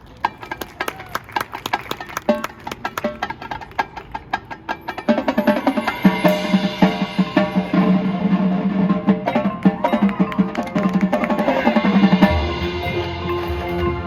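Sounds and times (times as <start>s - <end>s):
marching band music: 0.0s - 14.0s.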